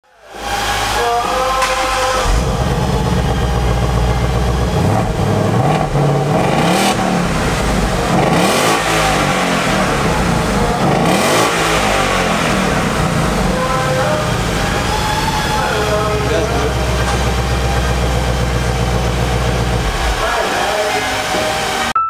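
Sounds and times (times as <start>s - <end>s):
car engine revving: 0.2s - 22.0s.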